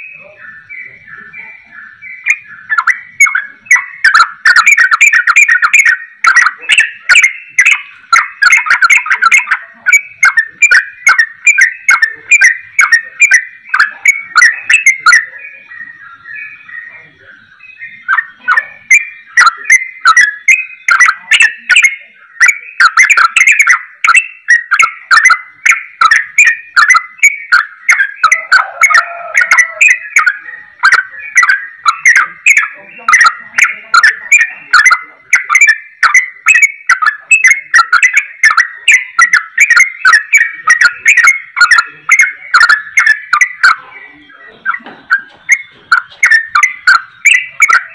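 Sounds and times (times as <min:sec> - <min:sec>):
bird singing rapid whistled notes: 0:00.0 - 0:47.9.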